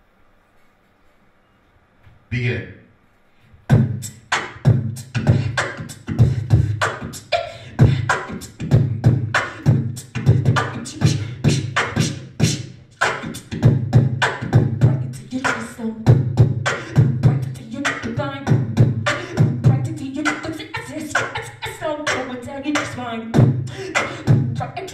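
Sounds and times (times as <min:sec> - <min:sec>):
person beatboxing: 0:03.7 - 0:24.9.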